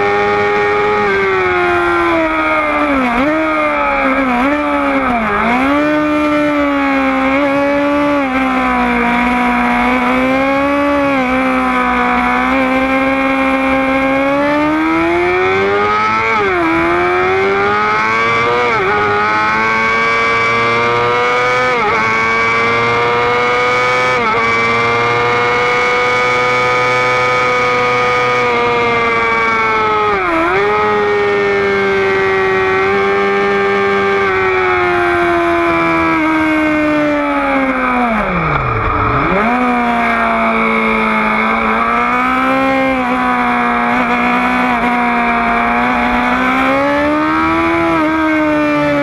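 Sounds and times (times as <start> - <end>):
sport motorcycle engine revving: 0.0 - 49.0.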